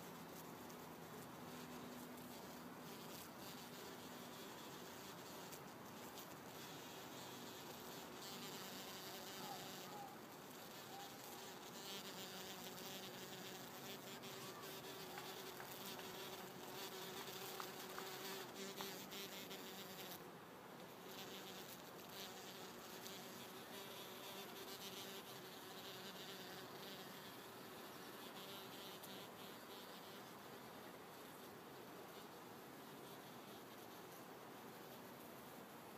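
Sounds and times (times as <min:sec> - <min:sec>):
bumblebee wings buzzing: 0:00.0 - 0:20.2, 0:21.0 - 0:31.5.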